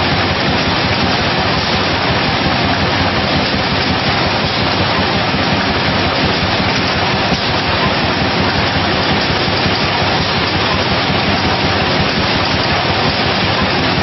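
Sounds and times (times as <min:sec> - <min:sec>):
bottling machine rushing noise: 0:00.0 - 0:14.0.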